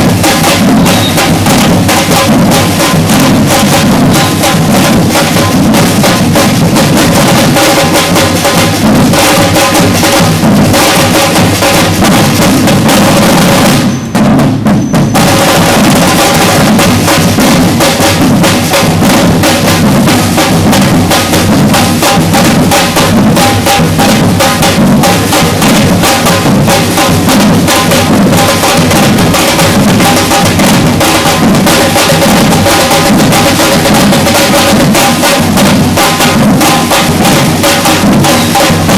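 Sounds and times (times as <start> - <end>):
drum ensemble playing: 0.0 - 38.9.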